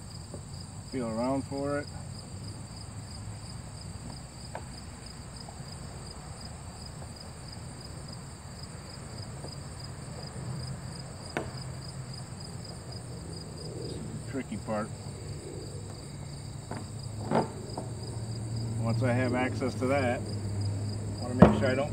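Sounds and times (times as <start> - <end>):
insects chirring: 0.0 - 21.9
low background rumble: 1.8 - 21.9.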